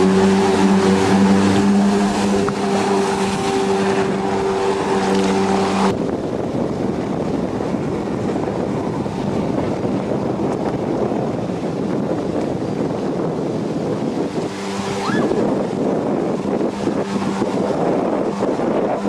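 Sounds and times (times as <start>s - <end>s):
jet ski engine droning: 0.0s - 19.0s
wind buffeting microphone: 0.0s - 19.0s.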